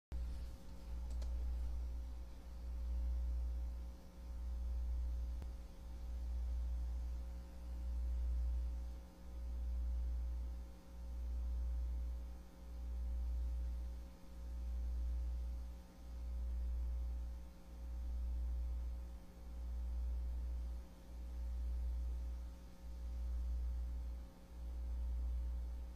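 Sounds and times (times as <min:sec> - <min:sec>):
low pulsing hum: 0:00.1 - 0:25.9.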